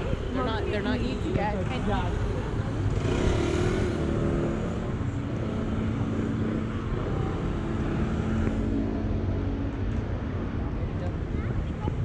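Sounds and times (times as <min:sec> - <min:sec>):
cars passing: 0:00.0 - 0:12.0
traffic low rumble: 0:00.0 - 0:12.0.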